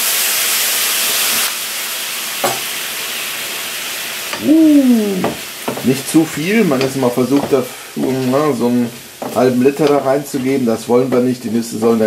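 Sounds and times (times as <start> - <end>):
syrup sizzling in a frying pan: 0.0 - 12.0.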